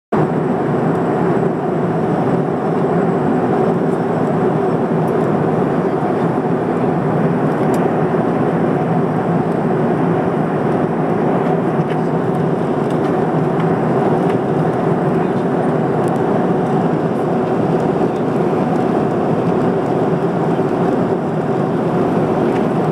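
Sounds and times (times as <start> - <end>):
airliner cabin engine roar: 0.1 - 22.9.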